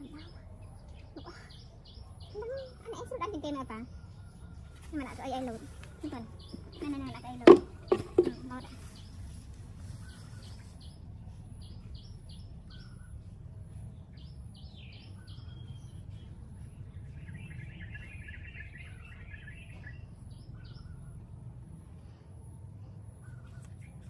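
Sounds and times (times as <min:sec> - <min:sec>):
birds chirping: 0:00.0 - 0:24.0
low background rumble: 0:00.0 - 0:24.0.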